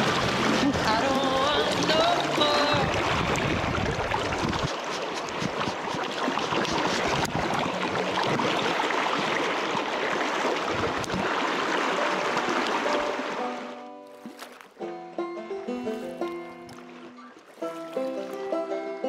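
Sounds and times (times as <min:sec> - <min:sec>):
river water rushing: 0:00.0 - 0:14.8, 0:15.9 - 0:19.0.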